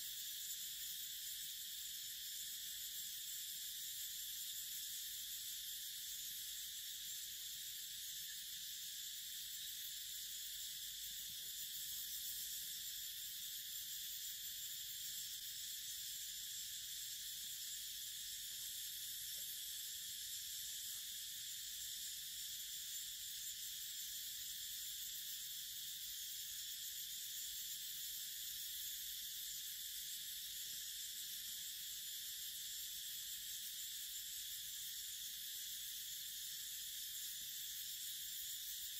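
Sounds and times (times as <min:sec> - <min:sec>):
insect chorus hiss: 0:00.0 - 0:38.9.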